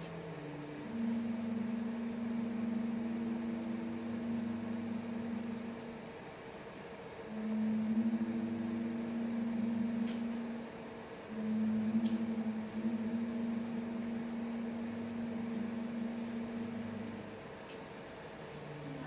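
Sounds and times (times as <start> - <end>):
film soundtrack low held notes: 0.0 - 6.6, 7.2 - 19.0.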